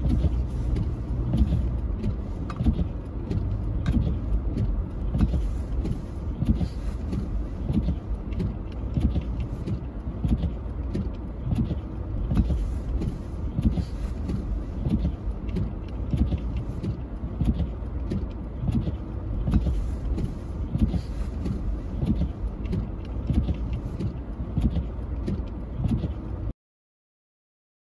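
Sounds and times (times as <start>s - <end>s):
car engine and tyres rumbling: 0.0s - 26.5s.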